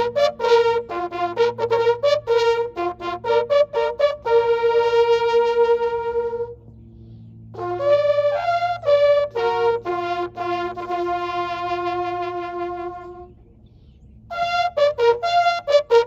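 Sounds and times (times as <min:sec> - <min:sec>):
bugles playing in unison: 0:00.0 - 0:13.4, 0:14.2 - 0:16.0.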